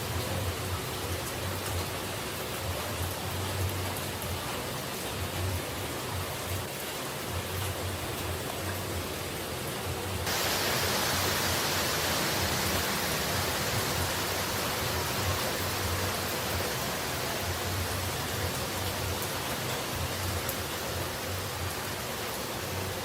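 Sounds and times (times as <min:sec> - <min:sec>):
rushing falling water: 0:00.0 - 0:23.0.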